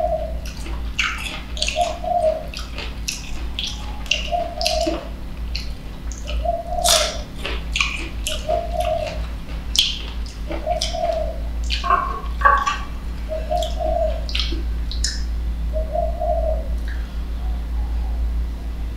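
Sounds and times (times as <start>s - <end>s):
wet eating sounds: 0.0s - 15.4s.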